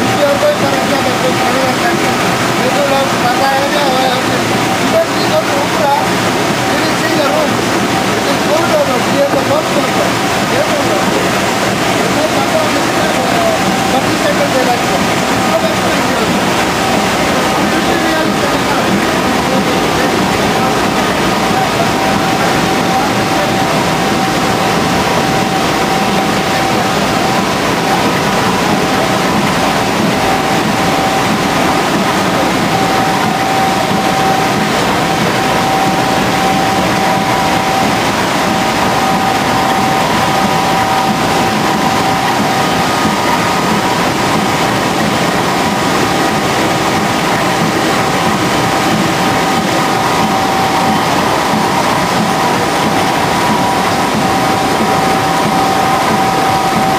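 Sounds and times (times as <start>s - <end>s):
high whine: 0.0s - 56.9s
machine running: 0.0s - 56.9s.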